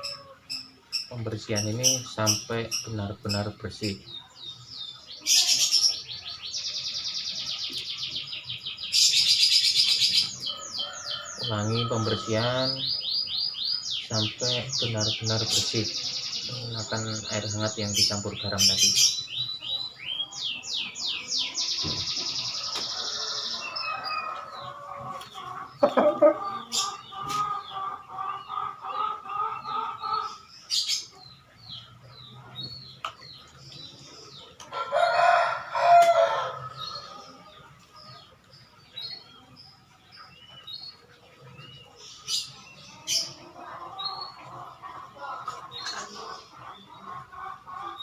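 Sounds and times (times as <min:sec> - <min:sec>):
chickens calling: 0:00.0 - 0:48.0
small birds chirping: 0:00.0 - 0:48.0.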